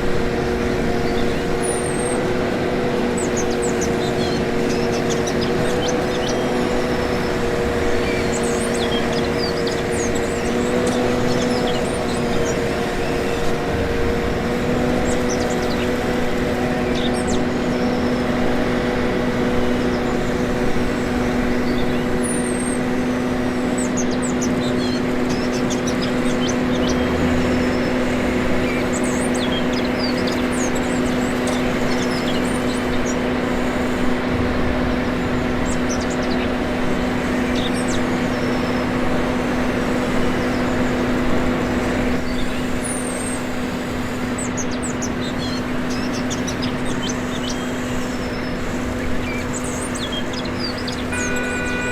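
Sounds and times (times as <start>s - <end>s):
birds chirping: 0.0s - 51.9s
constant rushing noise: 0.0s - 51.9s
toy machines humming: 0.0s - 51.9s.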